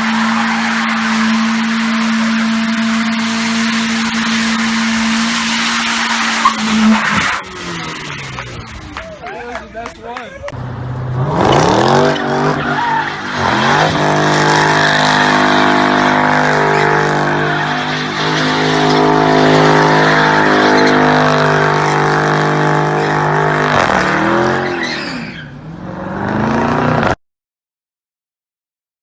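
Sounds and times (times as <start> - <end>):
engine revving: 0.0 - 9.2, 10.5 - 24.8, 25.6 - 27.2.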